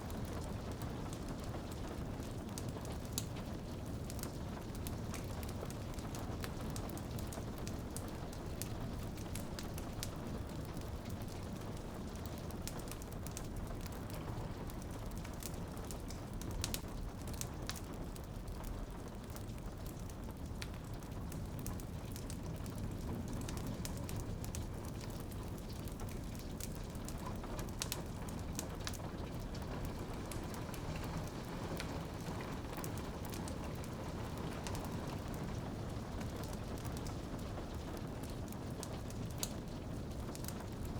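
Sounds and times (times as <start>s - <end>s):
fire crackling and popping: 0.0s - 40.9s
rain pattering on a window: 0.0s - 40.9s.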